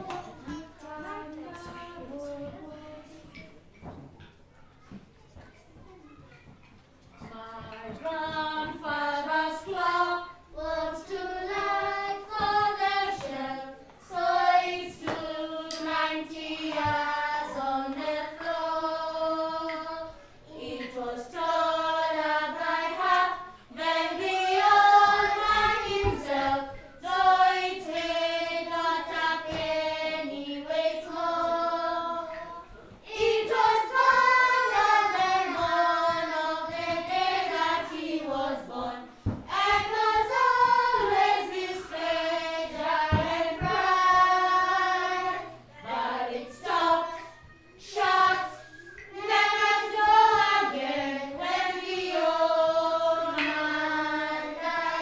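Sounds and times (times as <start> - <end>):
children singing together: 0.0 - 55.0.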